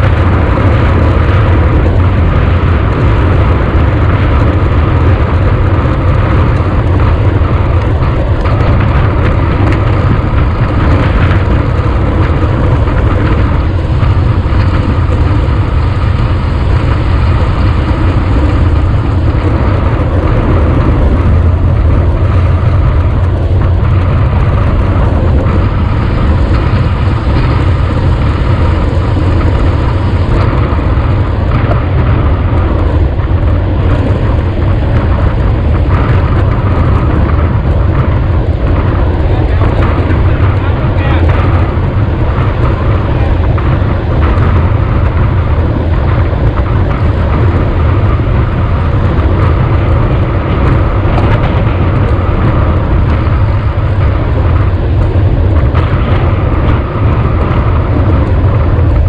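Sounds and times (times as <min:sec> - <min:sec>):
tyre noise on asphalt: 0:00.0 - 0:59.0
wind rush over microphone: 0:00.0 - 0:59.0.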